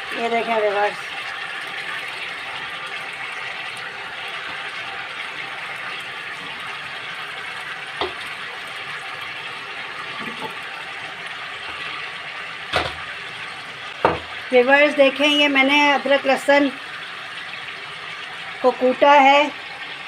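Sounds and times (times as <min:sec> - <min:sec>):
chicken and tomatoes sizzling in a pan: 0:00.0 - 0:20.0.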